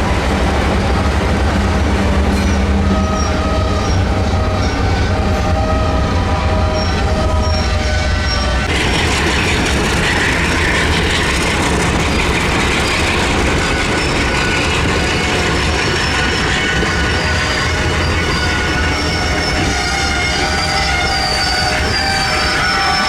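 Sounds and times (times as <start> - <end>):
train rumbling on rails: 0.0 - 23.0
train wheels squealing: 2.1 - 23.0.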